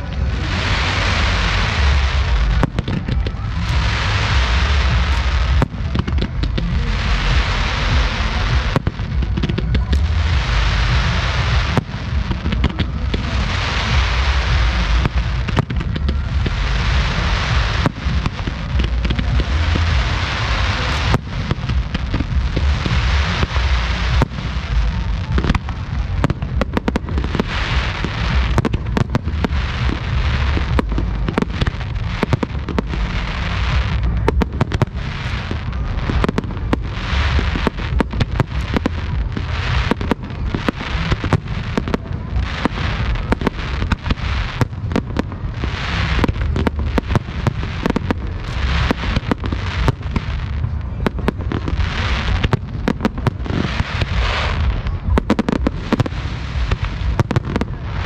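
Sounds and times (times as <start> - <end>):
crackling hiss: 0.0 - 58.0
fireworks bangs: 0.0 - 58.0
low rumble: 0.0 - 58.0.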